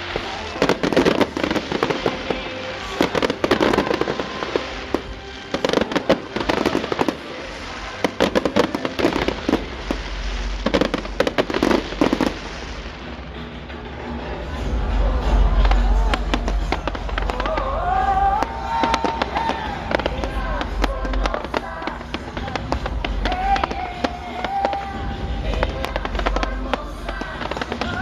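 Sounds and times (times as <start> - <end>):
fireworks bangs and crackling: 0.0 - 28.0
music playing: 0.0 - 28.0.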